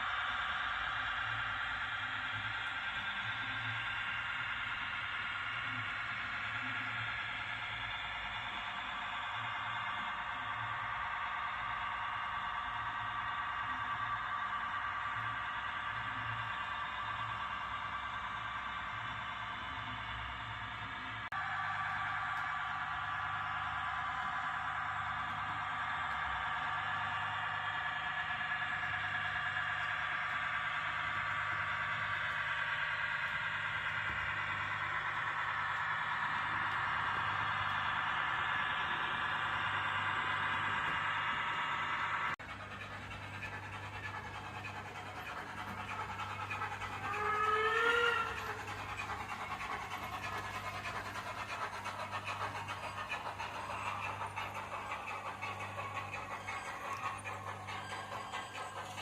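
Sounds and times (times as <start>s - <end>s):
model train motor whine: 0.0s - 59.0s.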